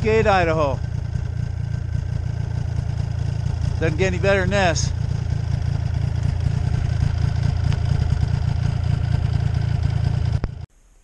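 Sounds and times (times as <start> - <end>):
snowmobile engine idling: 0.0 - 10.7.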